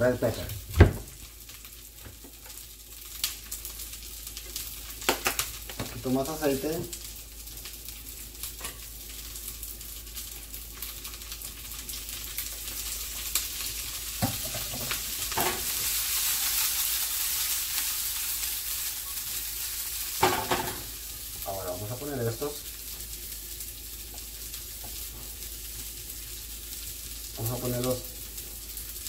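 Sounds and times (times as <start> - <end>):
oil sizzling in a frying pan: 0.0 - 29.0.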